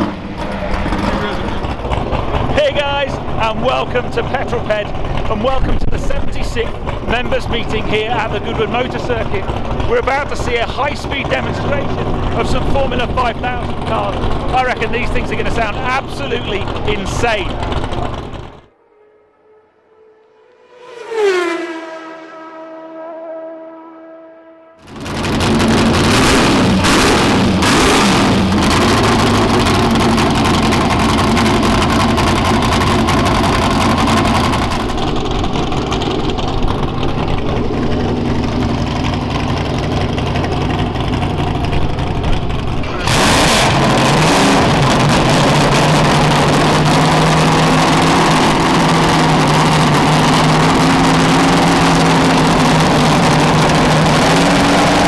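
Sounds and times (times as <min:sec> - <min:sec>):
racing car engines idling: 0:00.0 - 0:22.8, 0:24.8 - 0:55.0
engine throttle blips: 0:00.0 - 0:55.0.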